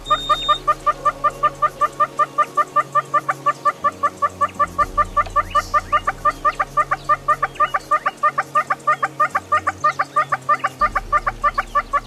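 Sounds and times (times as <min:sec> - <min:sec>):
hornbill calling: 0:00.0 - 0:12.0.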